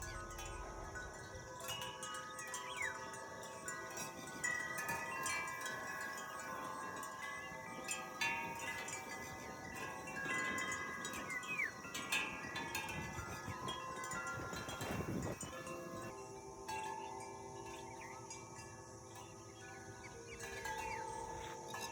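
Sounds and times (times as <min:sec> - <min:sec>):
wind chimes ringing: 0:00.0 - 0:21.9.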